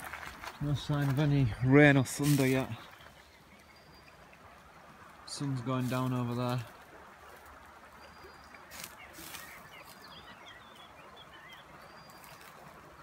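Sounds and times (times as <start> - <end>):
river water rushing: 0.0 - 13.0
small birds chirping: 0.4 - 13.0.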